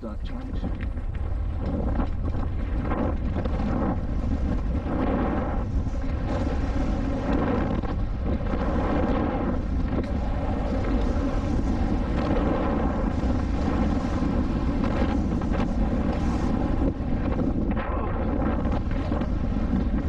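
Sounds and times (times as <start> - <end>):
wind on microphone: 0.0 - 20.0
bike tyres rolling on dirt: 0.4 - 20.0.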